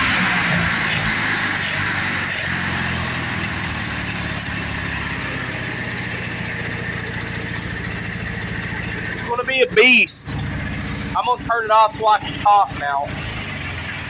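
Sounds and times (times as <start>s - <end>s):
mower engine idling: 0.0s - 14.0s.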